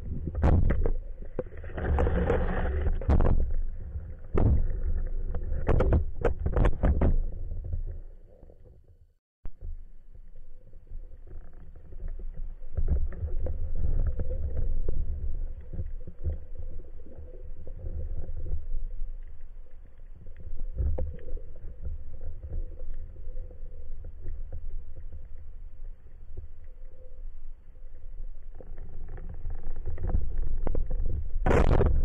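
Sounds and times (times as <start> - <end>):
muffled underwater rumble: 0.0 - 32.0.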